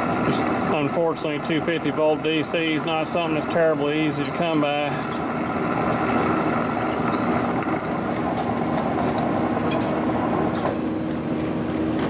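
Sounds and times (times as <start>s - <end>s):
drill motor humming: 0.0s - 11.1s
drill bit cutting metal: 0.4s - 10.6s.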